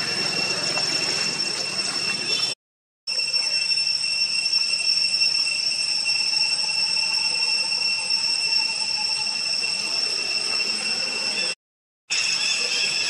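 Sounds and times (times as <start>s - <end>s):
cicada chorus drone: 0.0s - 13.0s.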